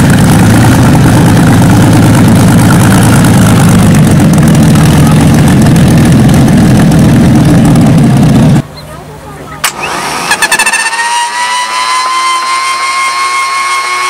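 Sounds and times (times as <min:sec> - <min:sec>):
aero engine idling: 0:00.0 - 0:14.0.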